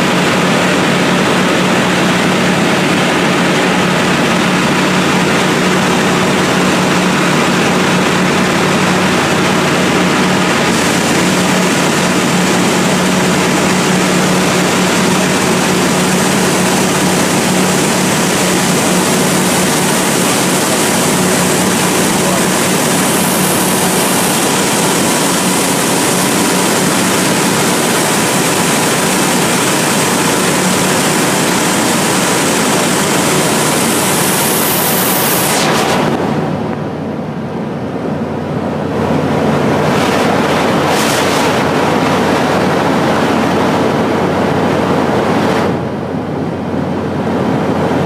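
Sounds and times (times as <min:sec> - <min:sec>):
engine and propeller drone: 0:00.0 - 0:48.0
loud wind rush: 0:00.0 - 0:48.0.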